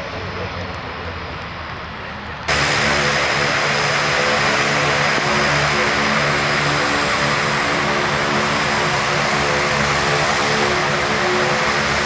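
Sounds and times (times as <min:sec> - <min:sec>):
turboprop engines running: 0:00.0 - 0:12.0.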